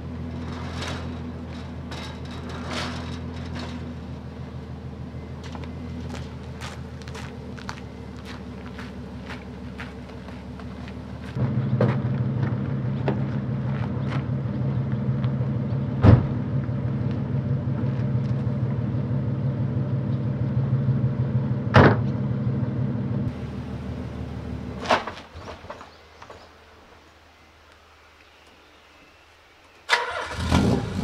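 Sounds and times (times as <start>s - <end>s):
sports car engine running: 0.0s - 24.9s.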